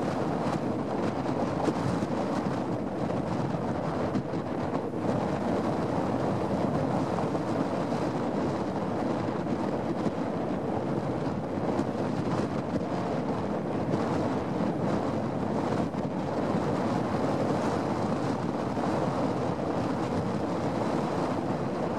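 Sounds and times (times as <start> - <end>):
choppy lake water: 0.0 - 21.9
wind buffeting microphone: 0.0 - 21.9.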